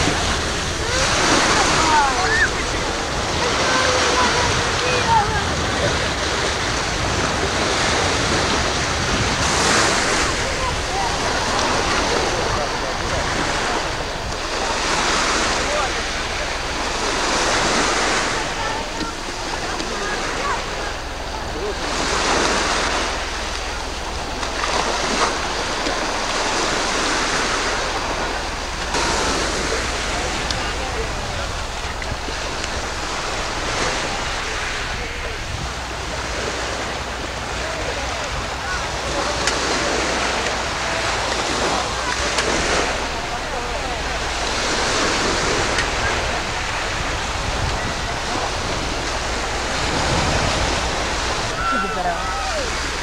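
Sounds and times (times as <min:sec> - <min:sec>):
waves on a pebble beach: 0:00.0 - 0:53.0
wind: 0:00.0 - 0:53.0.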